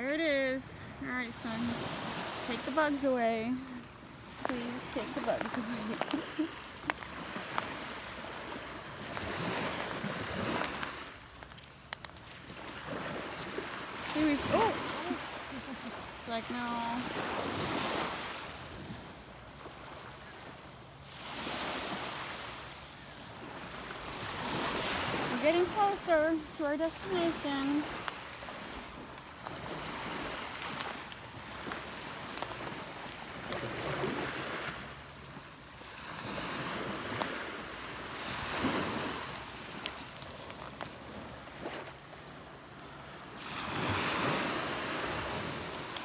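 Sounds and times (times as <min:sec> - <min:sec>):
small waves washing on sand: 0:00.0 - 0:46.0.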